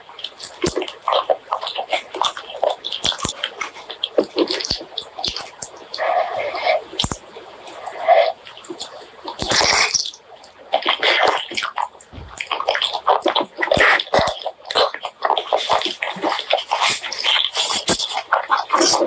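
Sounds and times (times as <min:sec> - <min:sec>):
chewing and lip smacking: 0:00.3 - 0:07.2, 0:08.7 - 0:10.2, 0:10.8 - 0:19.0.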